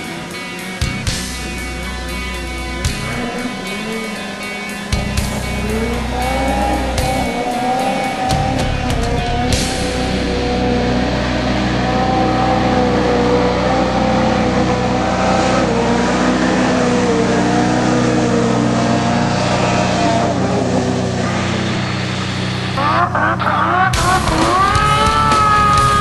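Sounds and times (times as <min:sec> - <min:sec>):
snowmobile engine at high revs: 0:00.0 - 0:26.0.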